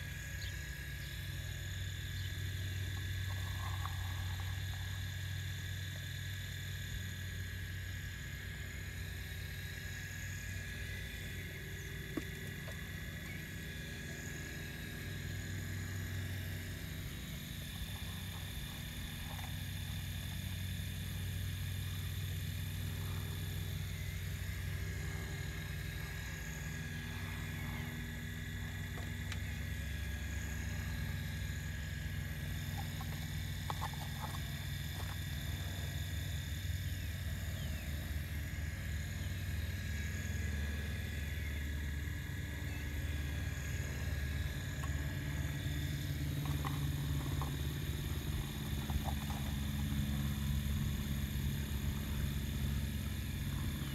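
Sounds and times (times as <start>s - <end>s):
thin high whine: 0.0s - 53.9s
toy excavator mechanical hum: 0.0s - 53.9s.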